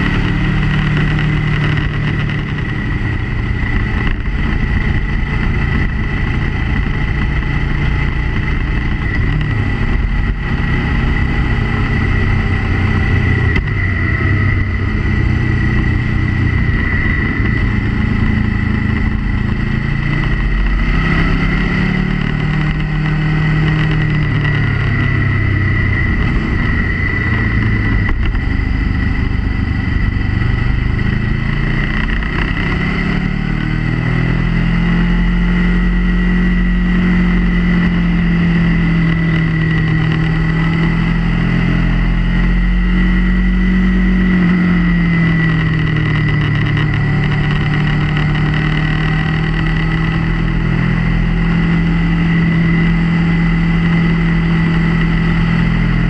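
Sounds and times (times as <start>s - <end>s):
motorcycle engine running: 0.0s - 56.0s
steady high whine: 0.0s - 56.0s.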